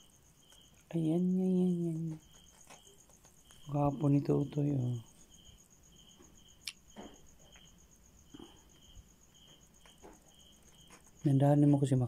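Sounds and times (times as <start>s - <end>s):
cricket trills: 0.0s - 12.0s
crickets chirping: 0.0s - 12.0s.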